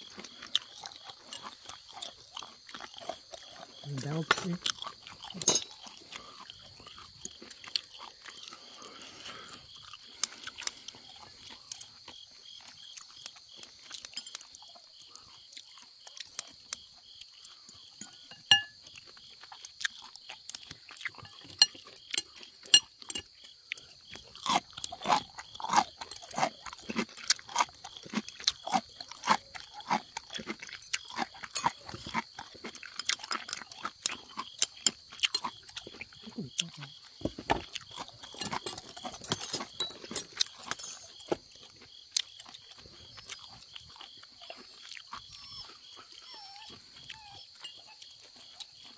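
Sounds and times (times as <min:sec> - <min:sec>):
people chewing and biting: 0:00.0 - 0:48.9.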